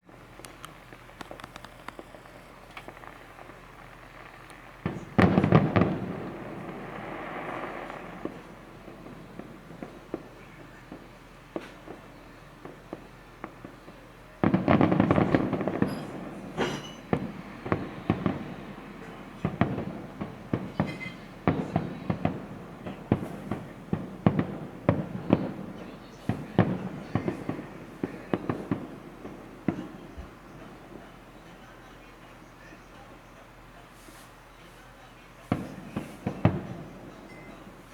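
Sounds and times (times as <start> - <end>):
crackling pops: 0.0 - 32.6, 35.4 - 37.9
fireworks bursting: 0.0 - 37.9.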